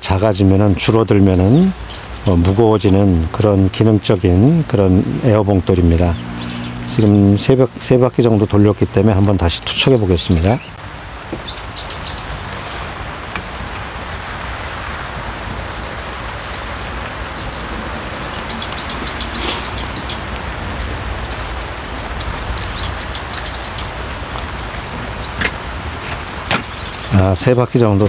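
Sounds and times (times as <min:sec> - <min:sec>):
rain falling on a pond: 0:00.0 - 0:28.0
small birds chirping: 0:00.1 - 0:28.0.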